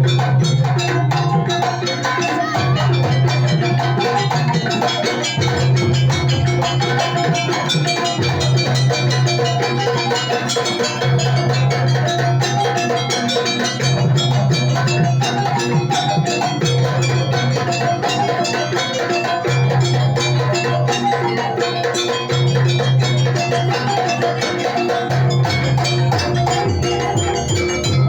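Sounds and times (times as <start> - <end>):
metallic gamelan percussion: 0.0 - 28.0.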